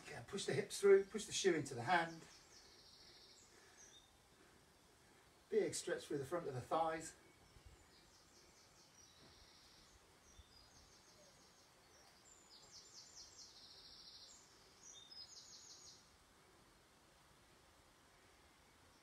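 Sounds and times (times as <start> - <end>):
quiet outdoor background noise: 0.0 - 19.0
songbird singing: 0.0 - 19.0.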